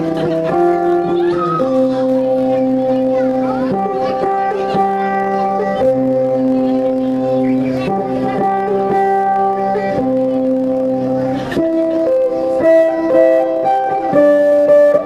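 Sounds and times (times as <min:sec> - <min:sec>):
plucked string melody over drone: 0:00.0 - 0:15.0.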